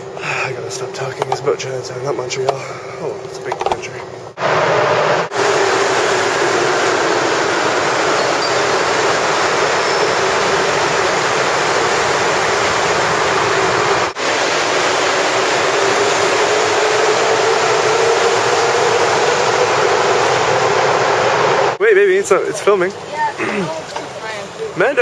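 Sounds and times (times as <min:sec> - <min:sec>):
train hum rising in pitch: 0:00.0 - 0:22.2
metro train rushing: 0:00.0 - 0:25.0.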